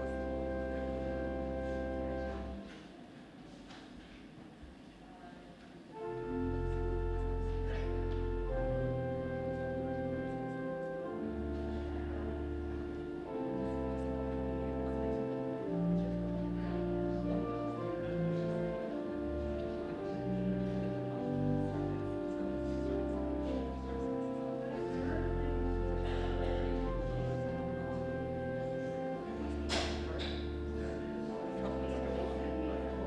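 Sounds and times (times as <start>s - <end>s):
church organ playing held chords: 0.0s - 2.7s, 6.0s - 33.0s.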